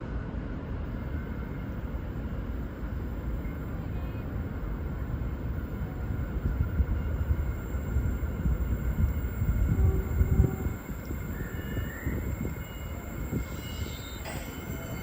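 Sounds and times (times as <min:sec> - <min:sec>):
diesel locomotive rumble: 0:00.0 - 0:15.0.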